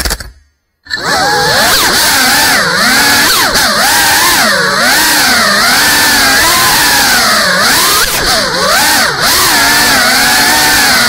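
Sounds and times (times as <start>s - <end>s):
drone motors whining: 0.9s - 11.0s.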